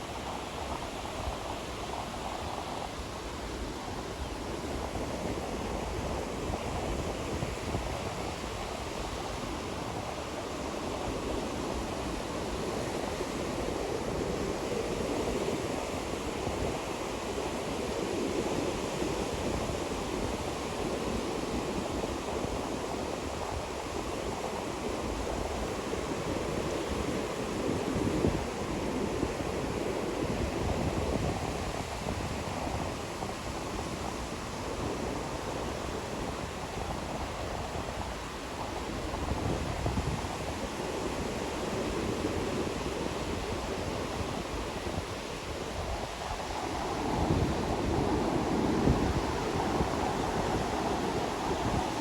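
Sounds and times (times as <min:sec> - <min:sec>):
ocean waves washing onto beach: 0:00.0 - 0:52.0.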